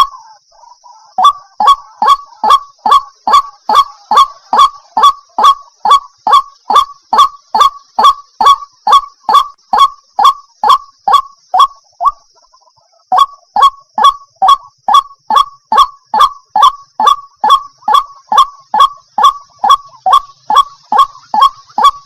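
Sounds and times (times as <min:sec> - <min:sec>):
bird honking calls: 0:00.0 - 0:12.2, 0:13.1 - 0:22.0.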